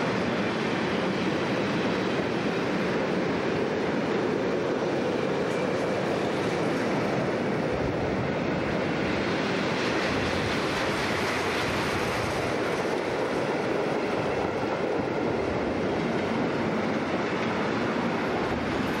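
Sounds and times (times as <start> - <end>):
train wagons rolling on rails: 0.0 - 19.0.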